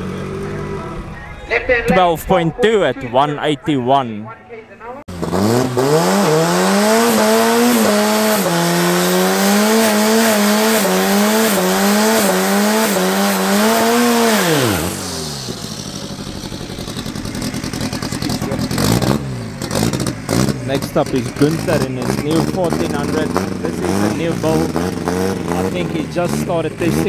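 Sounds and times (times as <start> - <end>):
car engine revving: 0.0 - 3.5, 5.0 - 27.0.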